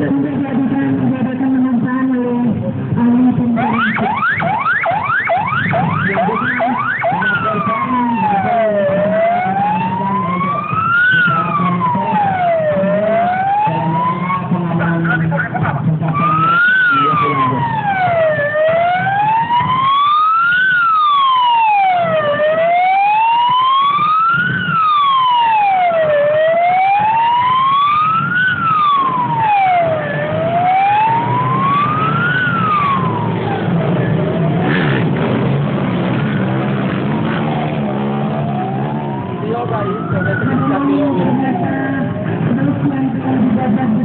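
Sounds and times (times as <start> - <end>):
vehicle engines running: 0.0 - 44.0
police siren wailing: 3.3 - 44.0.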